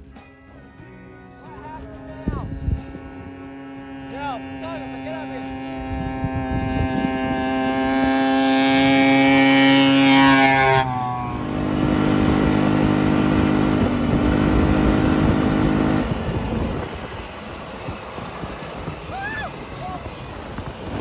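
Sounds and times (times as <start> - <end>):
atv engine high pitch: 0.0 - 21.0
go-kart engine running rough: 1.5 - 21.0.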